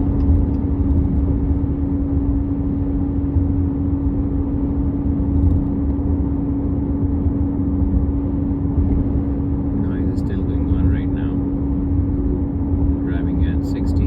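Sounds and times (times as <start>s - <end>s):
low road rumble: 0.0s - 14.0s
steady in-car hum: 0.0s - 14.0s.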